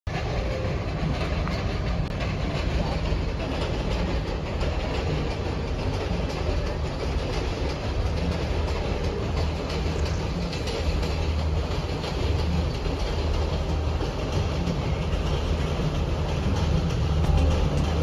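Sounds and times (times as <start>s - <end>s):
train rumble: 0.1s - 18.0s
wheels clacking on rail joints: 0.1s - 18.0s.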